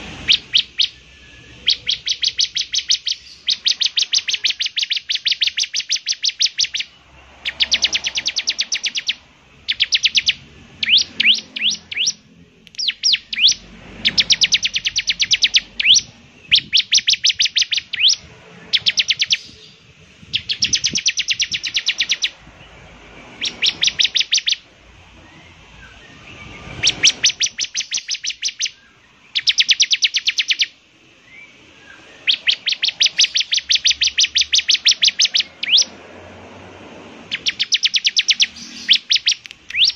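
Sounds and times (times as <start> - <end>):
prinia singing trills: 0.0 - 36.0, 37.1 - 39.9.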